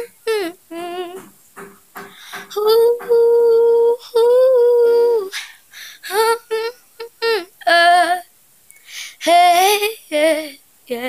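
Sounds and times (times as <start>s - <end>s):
girl singing: 0.0s - 1.3s, 2.1s - 8.3s, 9.1s - 11.0s.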